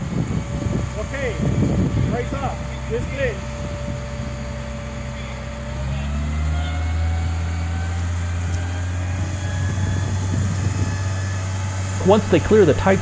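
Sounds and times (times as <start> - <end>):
crane engine running under load: 0.0 - 13.0.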